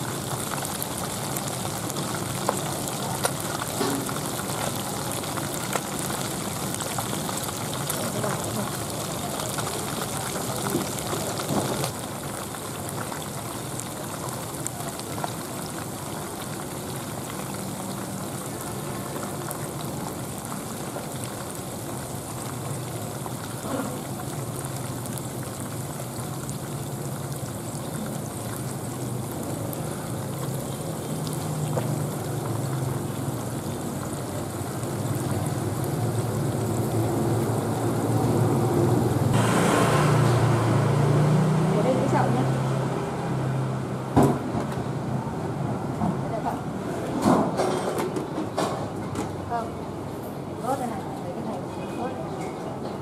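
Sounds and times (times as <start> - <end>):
fish sizzling in hot oil: 0.0 - 46.0.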